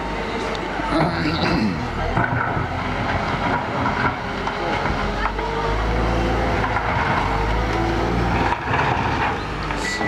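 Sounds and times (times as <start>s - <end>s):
diesel engine drone: 0.0s - 10.0s.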